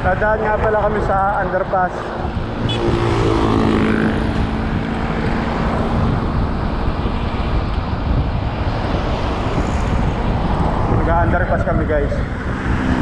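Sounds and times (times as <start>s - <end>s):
road noise: 0.0s - 13.0s
vehicle engine humming: 0.0s - 13.0s
wind buffeting microphone: 0.0s - 13.0s.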